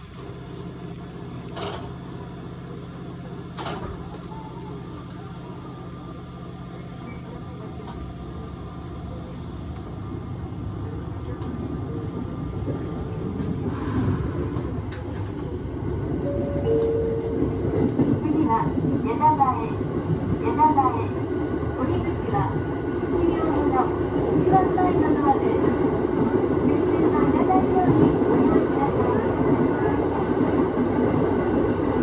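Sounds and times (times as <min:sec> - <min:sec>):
electric train running hum: 0:00.0 - 0:32.0.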